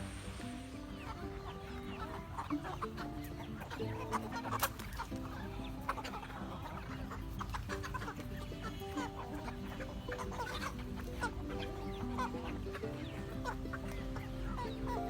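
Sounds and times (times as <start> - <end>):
chickens clucking: 0.0 - 15.0
soft background music: 0.0 - 15.0.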